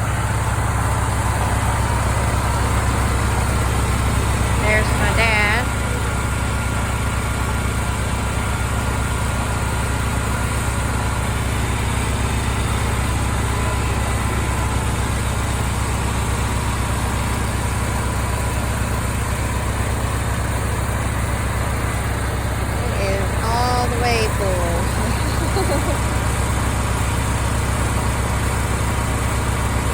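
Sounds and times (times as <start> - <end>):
tractor and generator engines droning: 0.0 - 29.9.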